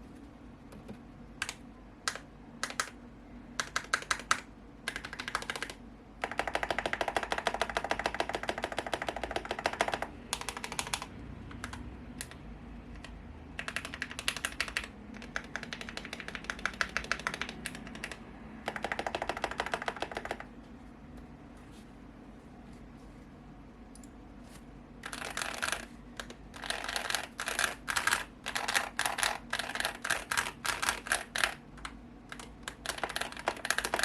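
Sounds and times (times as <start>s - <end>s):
fast typing on mechanical keyboard: 1.4s - 3.0s, 3.6s - 20.5s, 25.0s - 34.0s.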